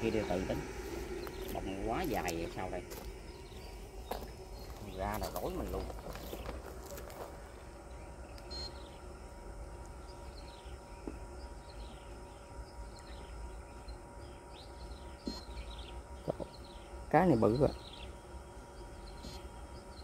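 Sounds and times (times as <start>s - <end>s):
small bird chirping: 0.0s - 7.0s, 7.9s - 9.0s, 9.9s - 20.0s
low steady rumble: 0.0s - 20.0s.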